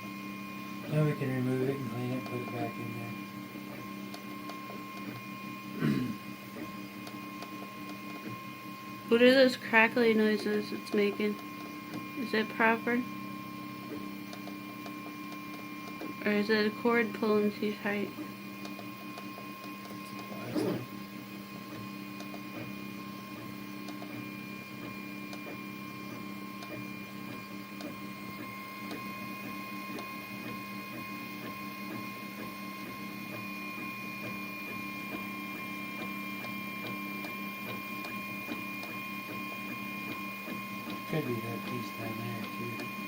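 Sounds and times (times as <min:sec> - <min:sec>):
three d printer motors running: 0:00.0 - 0:43.0.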